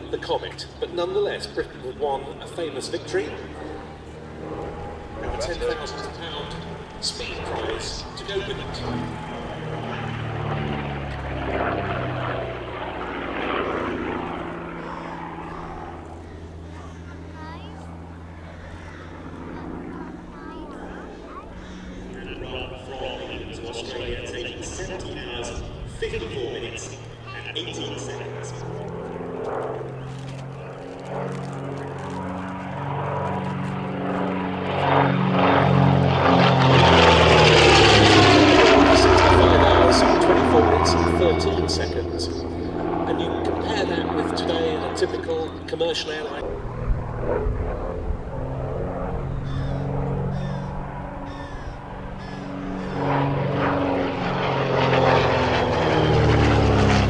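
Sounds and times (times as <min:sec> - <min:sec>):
propeller aircraft flying past: 0:00.0 - 0:57.0.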